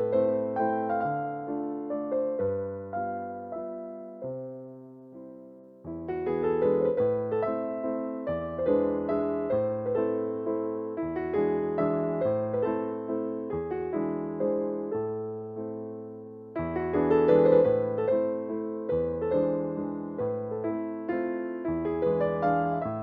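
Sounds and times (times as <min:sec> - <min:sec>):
soft piano music: 0:00.0 - 0:23.0.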